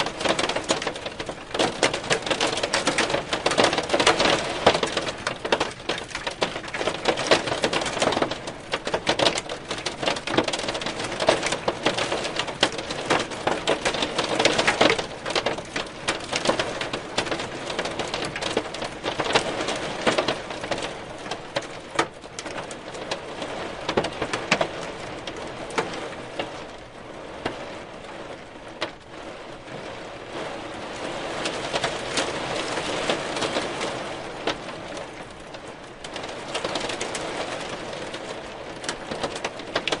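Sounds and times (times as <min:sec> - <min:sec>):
hailstones clattering: 0:00.0 - 0:26.8, 0:30.3 - 0:40.0.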